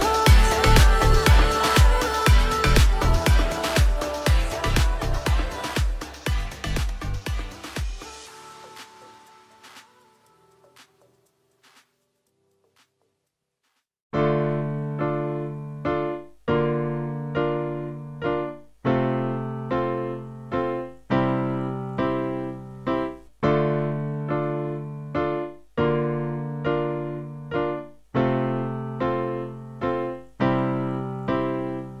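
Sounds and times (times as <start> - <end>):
electric piano chords: 0.0 - 8.3, 14.2 - 32.0.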